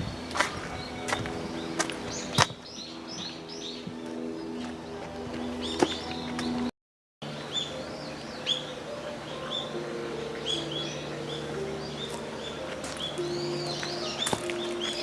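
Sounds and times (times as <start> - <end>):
small birds chirping: 0.0 - 6.7, 7.3 - 15.0
soft background music: 0.0 - 15.0.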